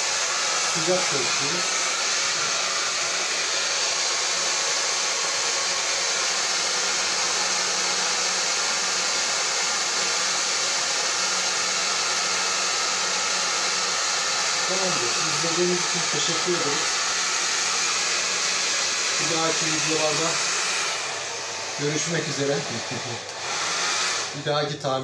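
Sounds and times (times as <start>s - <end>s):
hair dryer blowing air: 0.0s - 25.0s.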